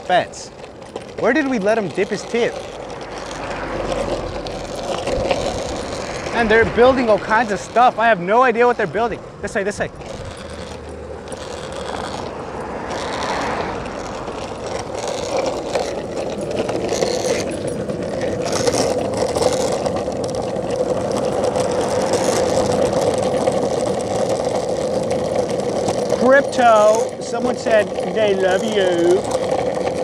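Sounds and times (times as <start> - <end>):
clicks and rattles: 0.0 - 30.0
wheels rolling over asphalt: 0.0 - 30.0.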